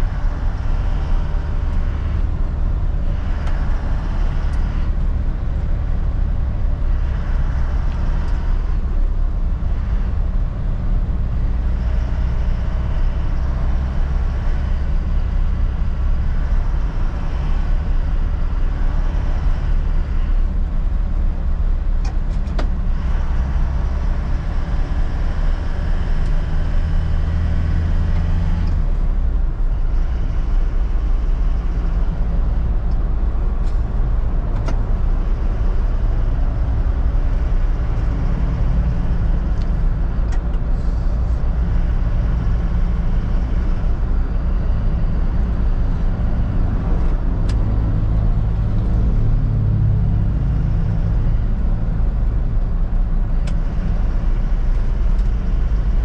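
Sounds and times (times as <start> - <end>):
road and tyre rumble: 0.0 - 56.0
truck diesel engine running: 0.0 - 56.0.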